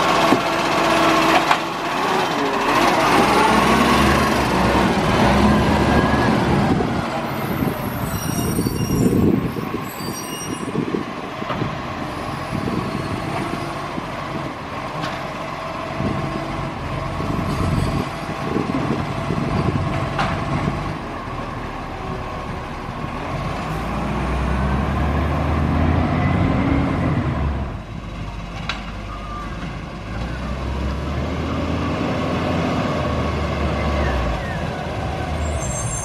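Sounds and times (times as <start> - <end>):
diesel truck engine rumbling: 0.0 - 36.0.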